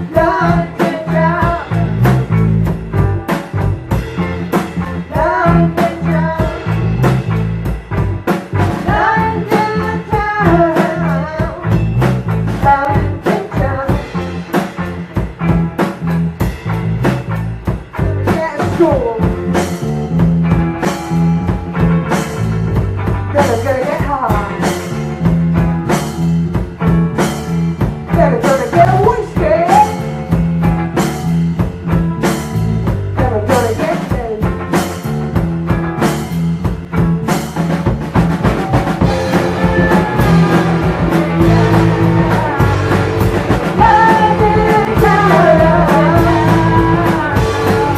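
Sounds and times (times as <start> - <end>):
bass line: 0.0 - 47.9
drum kit beat: 0.0 - 47.9
electric guitar: 0.0 - 47.9
live rock band playing: 0.0 - 47.9.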